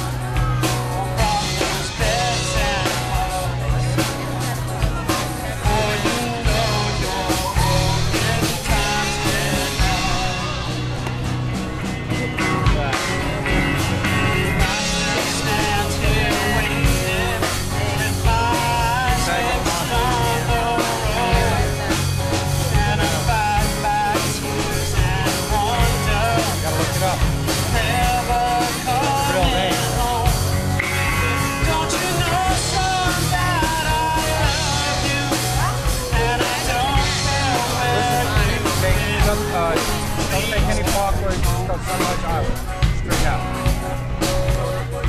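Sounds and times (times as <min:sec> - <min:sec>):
person singing: 0:00.0 - 0:11.1, 0:14.4 - 0:41.0
live rock band playing: 0:00.0 - 0:45.0.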